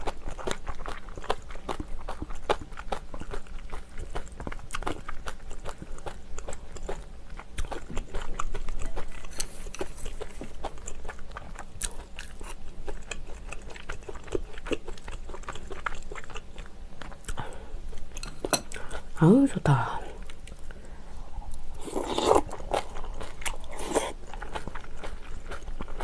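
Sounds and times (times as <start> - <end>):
wet chewing and crunching: 0.0 - 19.2, 20.2 - 26.0.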